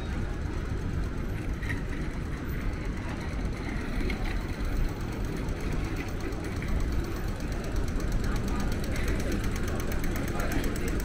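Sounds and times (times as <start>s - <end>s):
street traffic rumble: 0.0s - 11.0s
vehicle engines running nearby: 0.0s - 11.0s.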